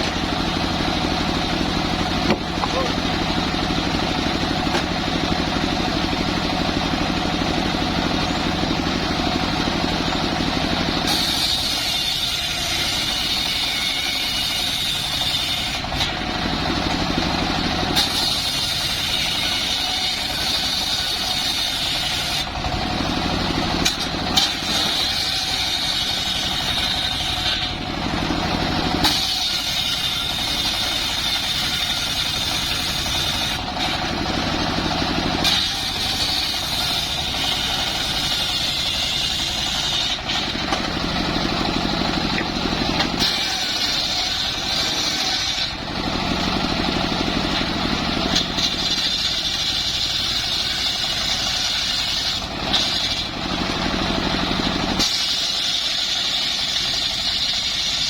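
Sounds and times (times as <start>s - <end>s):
engine-powered saw cutting timber: 0.0s - 58.0s.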